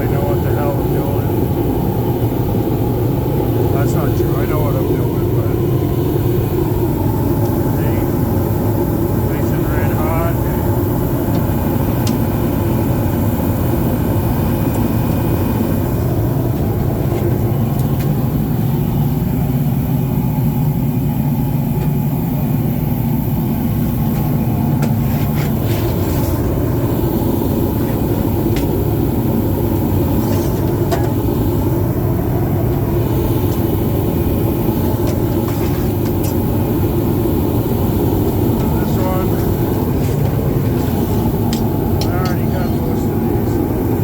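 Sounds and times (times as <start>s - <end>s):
low machine rumble with hum: 0.0s - 44.0s.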